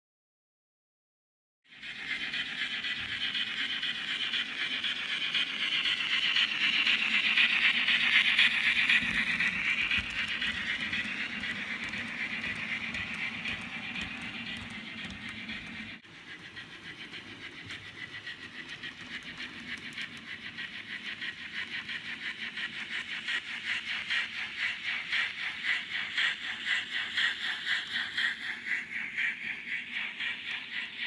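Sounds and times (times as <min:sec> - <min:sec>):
model train wheels clattering: 0:01.7 - 0:31.0.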